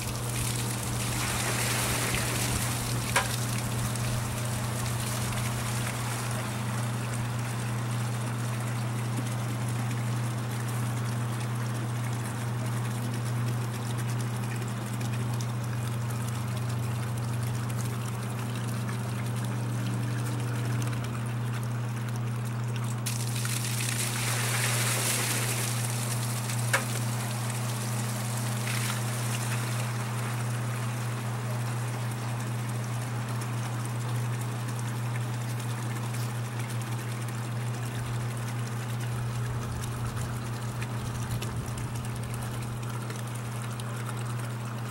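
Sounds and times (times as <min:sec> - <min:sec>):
water pouring and splashing: 0:00.0 - 0:44.9
water pump motor humming: 0:00.0 - 0:44.9
water streaming into bucket: 0:00.0 - 0:44.9.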